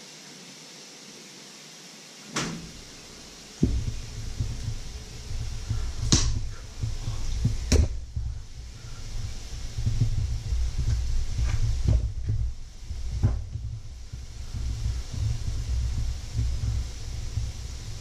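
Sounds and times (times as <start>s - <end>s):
steady hiss: 0.0s - 18.0s
low uneven throbbing rumble: 2.6s - 18.0s.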